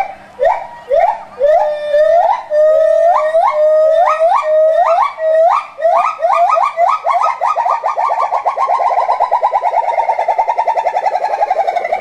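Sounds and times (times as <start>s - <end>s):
gibbons whooping and hooting: 0.0s - 12.0s.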